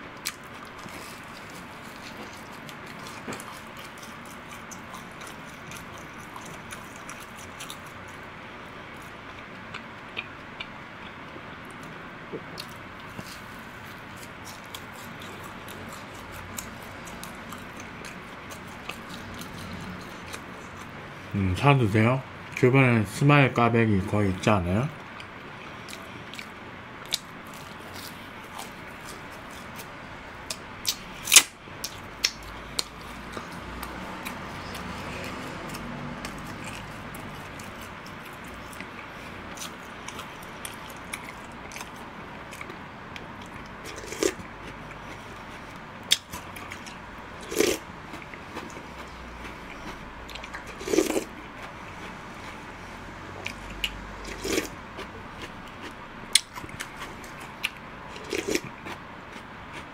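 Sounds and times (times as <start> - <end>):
chewing: 0.2 - 8.3, 8.9 - 21.0, 25.0 - 59.9.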